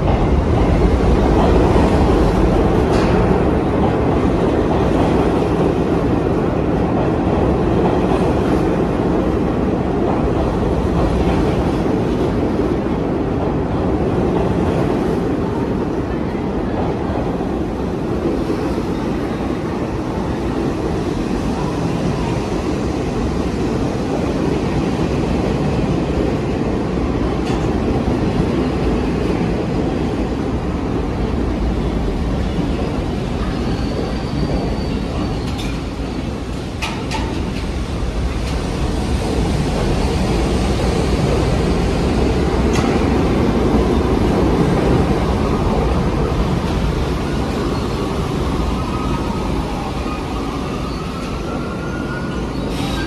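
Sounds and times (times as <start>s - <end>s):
subway train rumbling: 0.0s - 53.0s.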